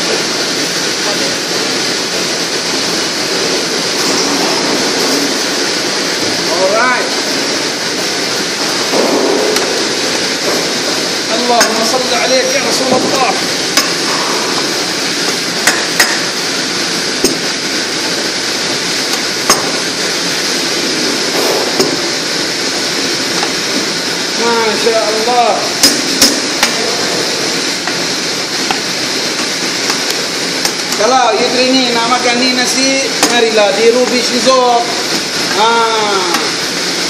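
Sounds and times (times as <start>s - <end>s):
steady rushing noise: 0.0s - 37.0s.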